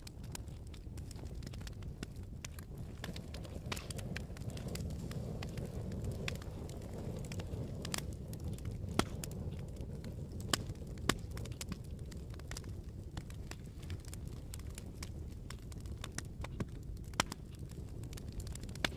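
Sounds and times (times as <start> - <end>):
wood fire crackling and popping: 0.0 - 18.9.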